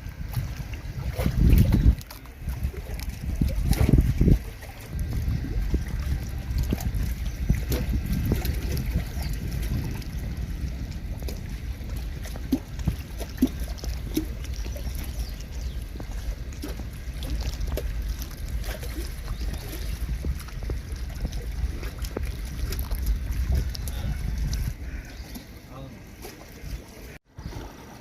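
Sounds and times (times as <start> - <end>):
flowing water: 0.0 - 28.0
wind buffeting microphone: 0.0 - 28.0.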